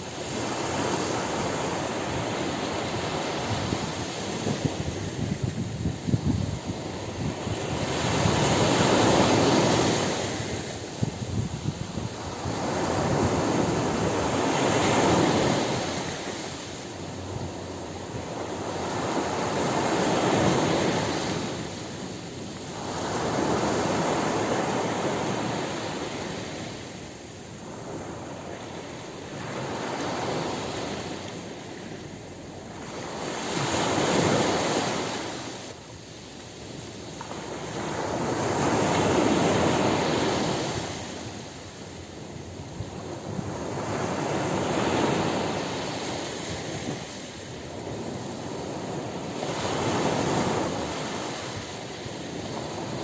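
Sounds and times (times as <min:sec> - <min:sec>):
ocean waves breaking on beach: 0:00.0 - 0:53.0.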